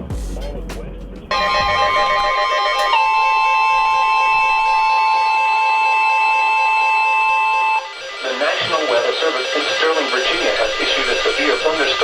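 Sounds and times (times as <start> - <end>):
two-tone alert signal: 1.3 - 12.0.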